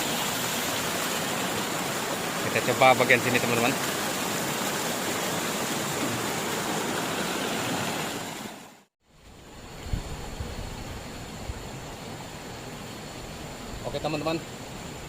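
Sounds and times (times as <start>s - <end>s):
river water flowing: 0.0s - 9.9s, 10.6s - 15.0s.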